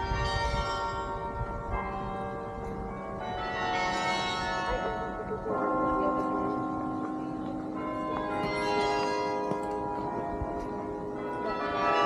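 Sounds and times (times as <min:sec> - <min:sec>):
carillon bells ringing melody: 0:00.0 - 0:12.0.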